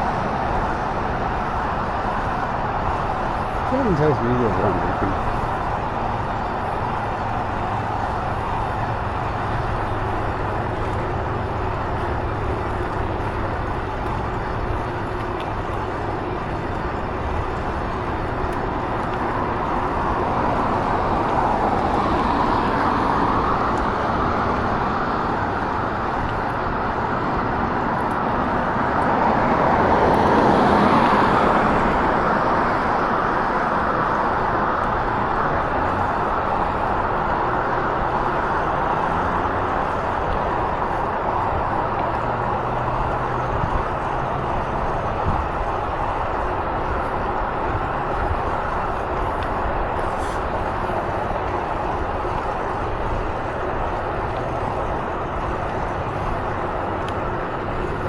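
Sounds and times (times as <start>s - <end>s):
road traffic noise: 0.0s - 58.0s
vehicles passing: 0.0s - 58.0s.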